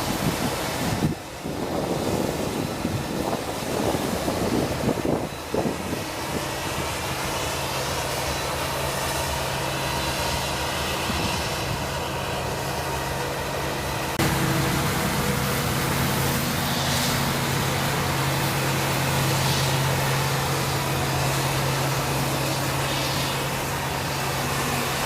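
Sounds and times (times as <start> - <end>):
farm machinery engine running: 0.0 - 25.0
wind gusts: 0.0 - 25.0.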